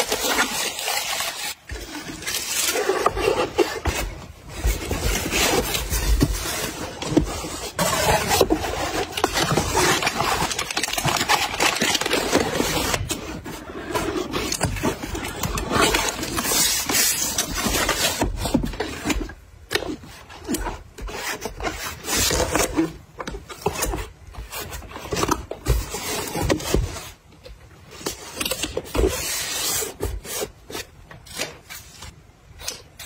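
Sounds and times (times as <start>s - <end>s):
cardboard box scraping: 0.0s - 27.2s.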